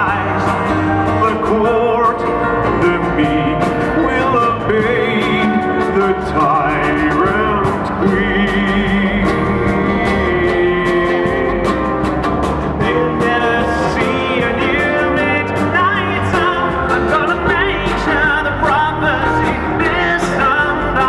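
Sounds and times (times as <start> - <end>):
person singing: 0.0 - 21.0
strummed acoustic guitars: 0.0 - 21.0.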